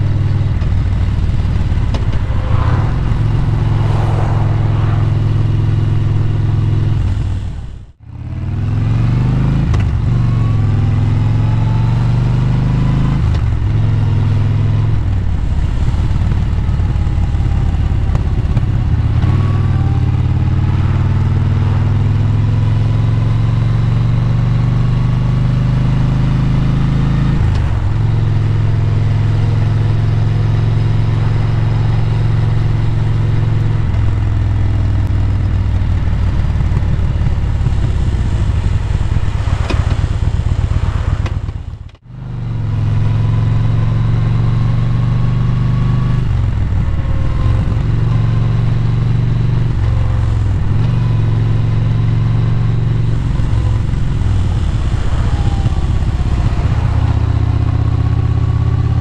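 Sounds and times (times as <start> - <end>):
motorcycle engine revving through gears: 0.0 - 59.0
wind and road noise: 0.0 - 59.0.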